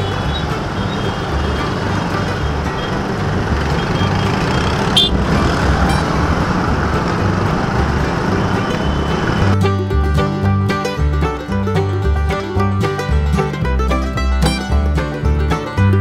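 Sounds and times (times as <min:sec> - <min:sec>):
bluegrass music bass line: 0:00.0 - 0:16.0
road and traffic noise: 0:00.0 - 0:16.0.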